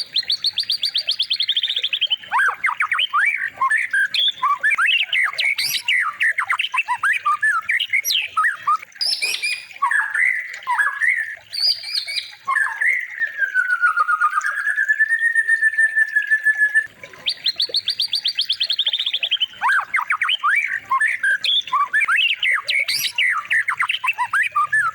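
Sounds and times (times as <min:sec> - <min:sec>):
songbird singing whistled notes: 0:00.0 - 0:24.9.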